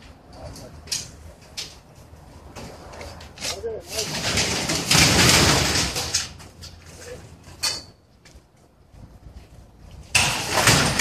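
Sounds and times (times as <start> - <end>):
sheet-metal roofing rattling and scraping: 0.0 - 8.0, 9.9 - 11.0.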